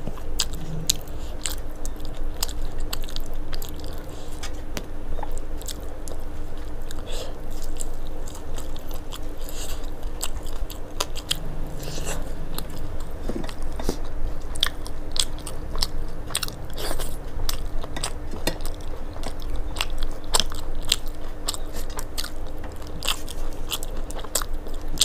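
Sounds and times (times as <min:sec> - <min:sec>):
chewing food: 0:00.0 - 0:25.0
faint steady hum: 0:00.0 - 0:25.0.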